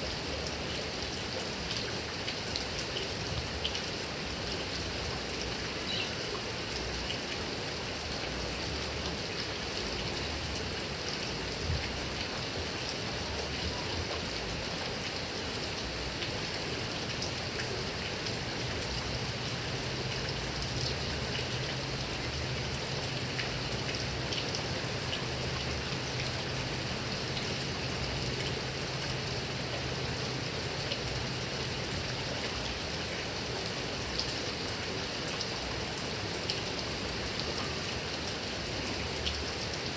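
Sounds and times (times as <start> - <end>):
heavy rain on grass and trees: 0.0 - 39.9.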